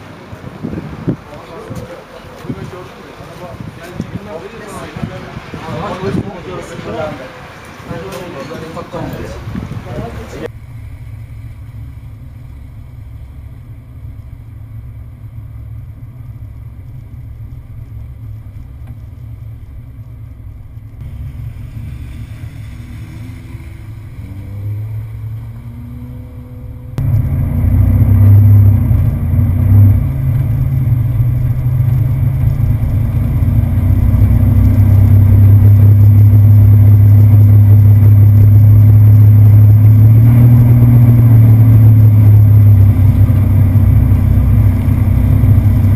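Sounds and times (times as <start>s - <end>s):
off-road vehicle engine rumbling: 0.0s - 45.9s.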